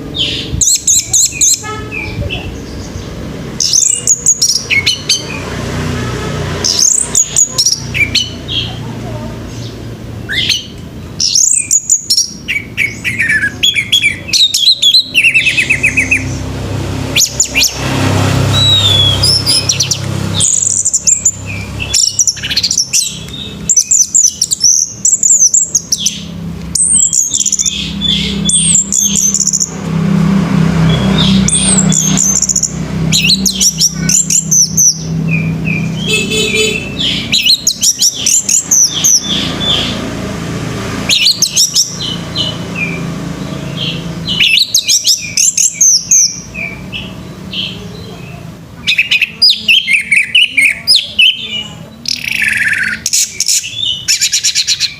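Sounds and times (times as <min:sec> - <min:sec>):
thrush singing: 0:00.0 - 0:54.9.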